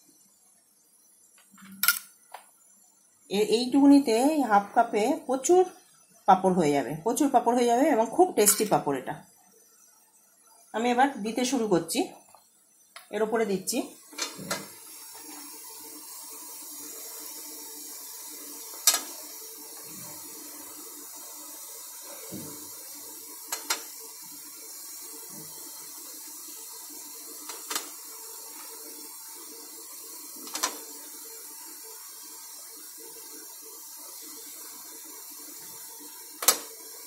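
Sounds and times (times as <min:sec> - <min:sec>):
water boiling hiss: 0:00.0 - 0:37.0.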